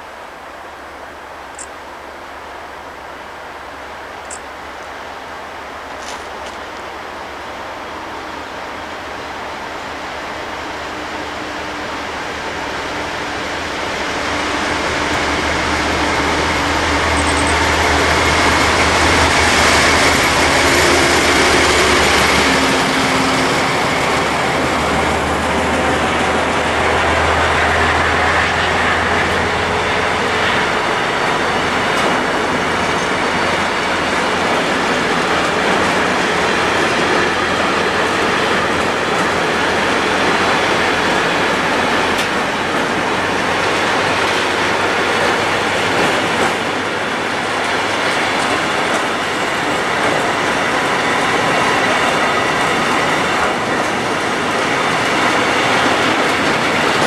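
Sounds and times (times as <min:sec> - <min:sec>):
diesel locomotive engine drone: 0:00.0 - 0:57.0
train wheels on rails: 0:01.4 - 0:57.0.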